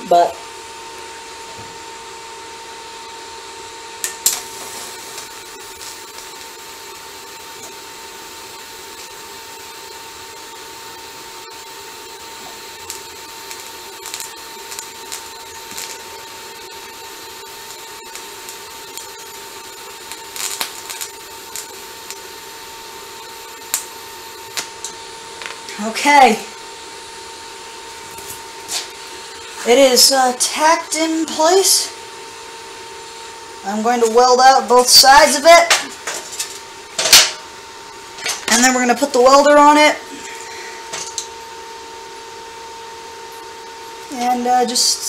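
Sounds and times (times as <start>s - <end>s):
welder hum and hiss: 0.0s - 45.0s
welding arc crackles: 0.0s - 45.0s.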